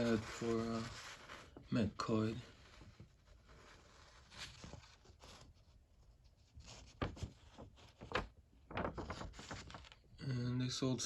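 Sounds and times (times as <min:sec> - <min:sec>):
paper sheet rustling: 0:00.0 - 0:10.0.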